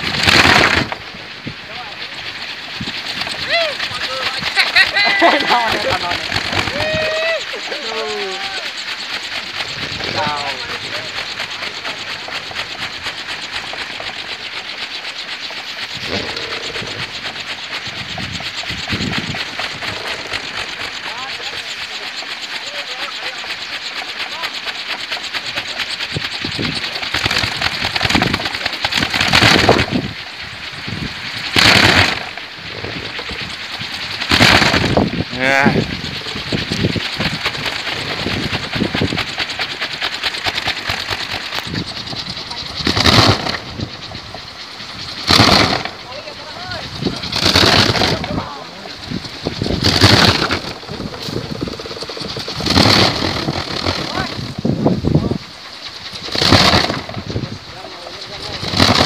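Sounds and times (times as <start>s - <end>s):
low rumbles: 0.0s - 22.8s, 23.6s - 59.0s
bamboo propeller whirring in wind: 0.0s - 59.0s.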